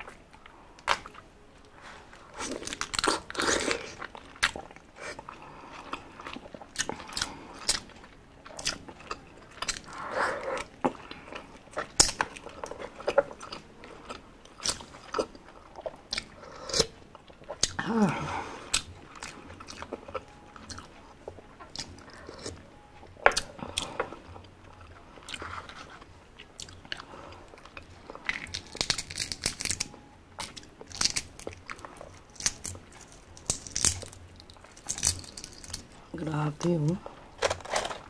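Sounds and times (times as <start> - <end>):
crunchy chewing: 1.8 - 17.8, 18.4 - 36.1.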